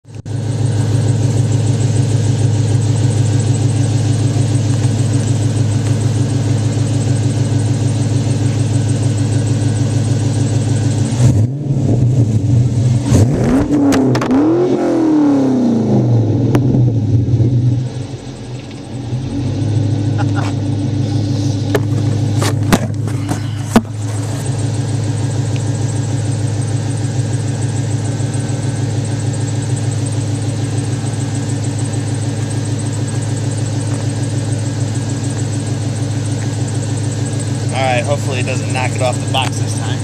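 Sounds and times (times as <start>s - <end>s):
car engine idling loudly: 0.0s - 40.0s
car engine revving: 0.3s - 40.0s.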